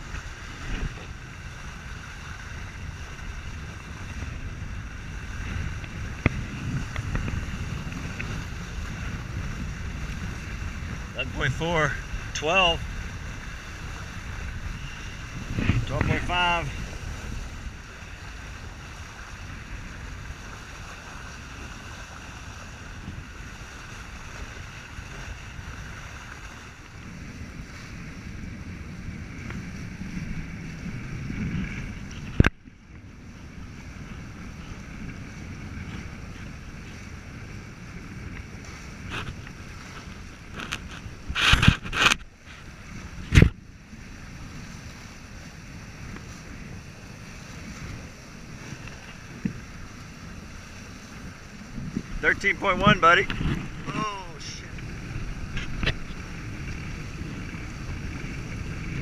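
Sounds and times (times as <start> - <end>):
water rushing past hulls: 0.0 - 59.0
wind buffeting microphone: 0.0 - 59.0.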